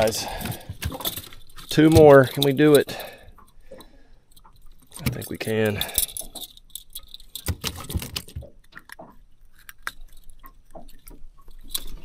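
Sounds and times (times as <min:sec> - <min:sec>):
metal clips jangling: 0:00.0 - 0:03.1, 0:04.3 - 0:12.0.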